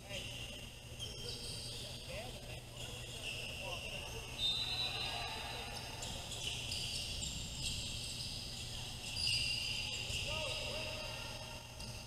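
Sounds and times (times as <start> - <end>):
faint crowd chatter: 0.0 - 12.0
sneaker squeaks on court floor: 0.2 - 11.0.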